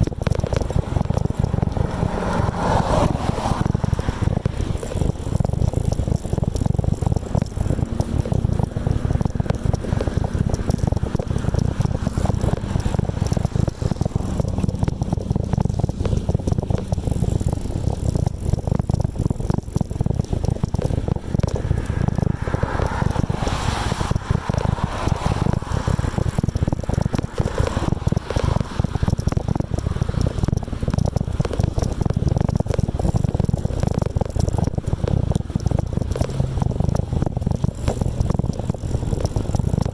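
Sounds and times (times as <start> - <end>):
bike rattling: 0.0 - 39.9
wind buffeting microphone: 0.0 - 39.9.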